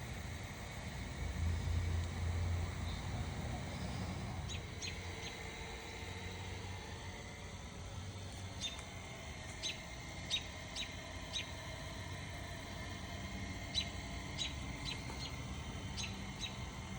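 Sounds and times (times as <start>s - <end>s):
low background hum: 0.0s - 16.9s.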